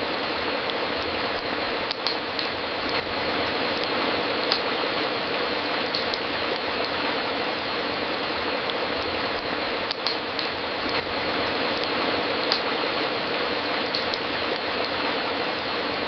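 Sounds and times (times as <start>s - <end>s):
hiss of flames: 0.0s - 16.0s.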